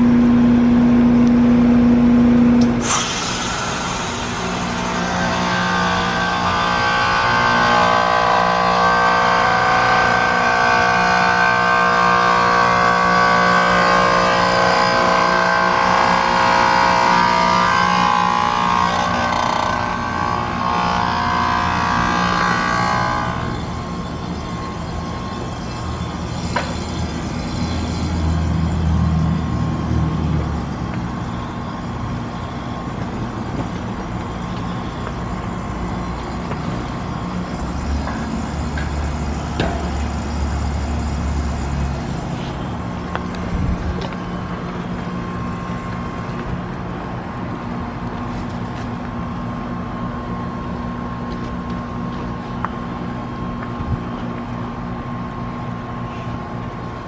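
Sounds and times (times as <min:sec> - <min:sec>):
heat pump humming and hissing: 0:00.0 - 0:57.0.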